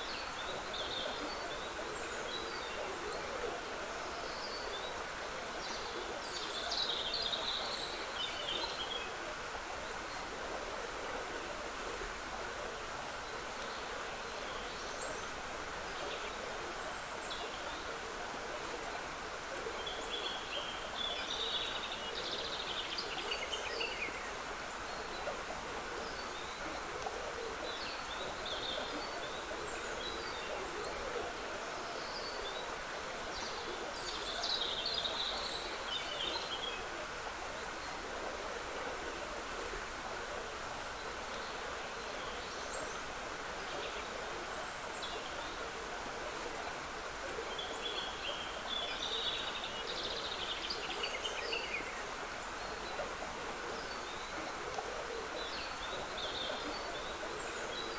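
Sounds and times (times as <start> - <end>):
stream trickling: 0.0 - 57.9.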